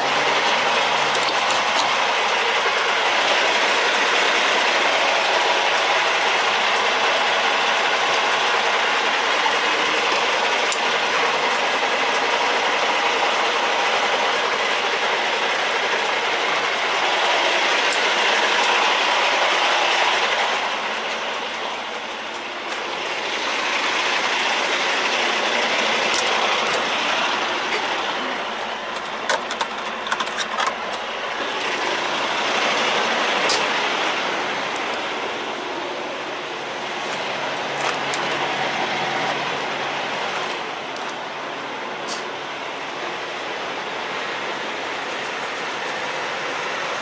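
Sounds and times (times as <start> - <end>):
diesel truck idling: 0.0 - 47.0.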